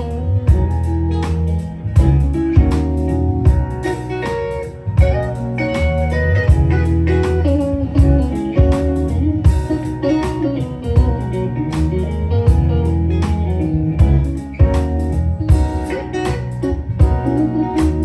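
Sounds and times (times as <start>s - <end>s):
bass guitar: 0.0s - 18.0s
guitar: 0.0s - 18.0s
steady drum beat: 0.0s - 18.0s.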